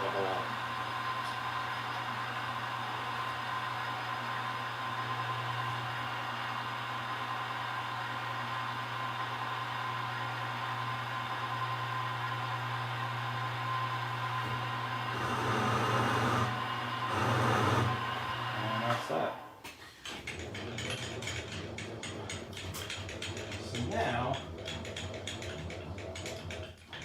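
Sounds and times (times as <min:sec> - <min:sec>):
milling machine whining: 0:00.0 - 0:27.0.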